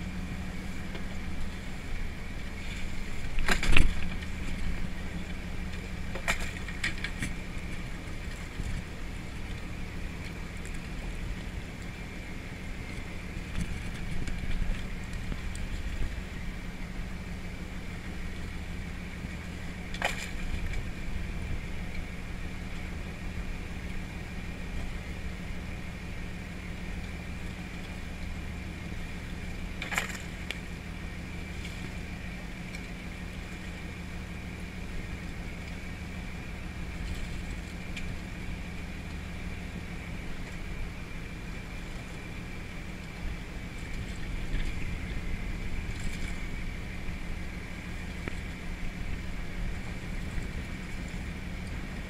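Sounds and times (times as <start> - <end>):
boat engine running: 0.0 - 52.0
thin steady whine: 0.0 - 52.0.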